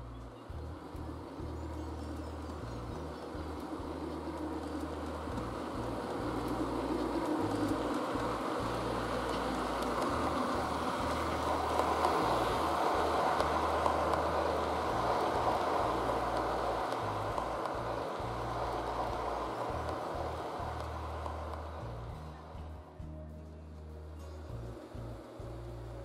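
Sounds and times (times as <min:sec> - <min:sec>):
model train rumbling on rails: 0:00.0 - 0:26.0.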